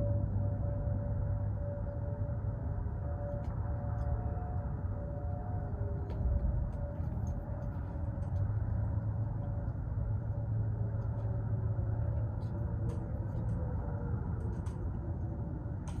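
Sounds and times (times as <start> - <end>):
distant warning sirens: 0.0 - 16.0
low rumble: 0.0 - 16.0.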